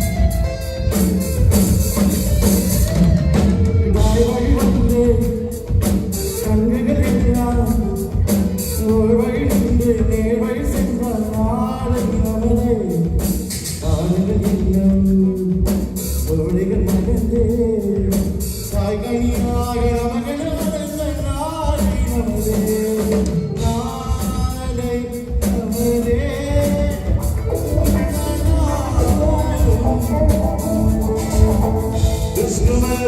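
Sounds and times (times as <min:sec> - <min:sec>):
live band playing: 0:00.0 - 0:33.0
person singing: 0:02.6 - 0:33.0.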